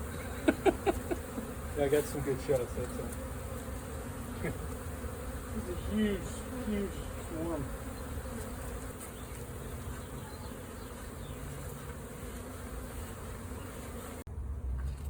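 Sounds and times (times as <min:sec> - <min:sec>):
bee swarm buzzing: 0:00.0 - 0:14.8.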